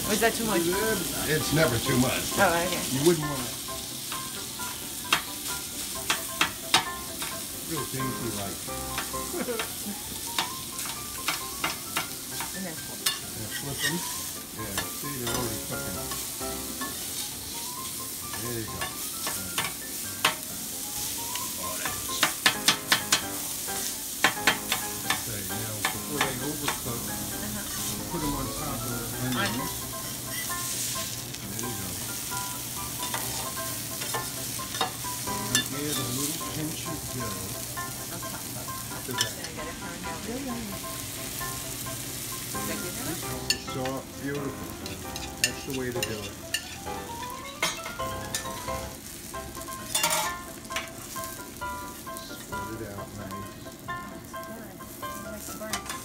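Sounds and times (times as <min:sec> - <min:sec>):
food sizzling on a griddle: 0:00.0 - 0:56.0.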